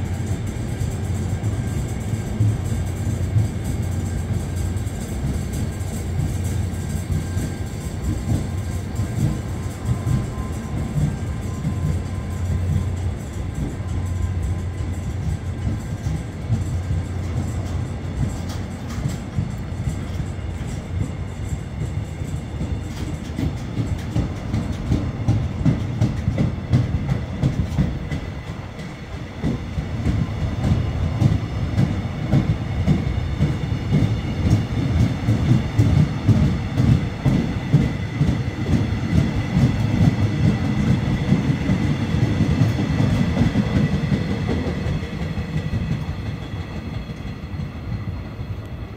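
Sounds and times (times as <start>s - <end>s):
low train rumble: 0.0s - 48.9s
train wheels clicking over rail joints: 0.0s - 48.9s.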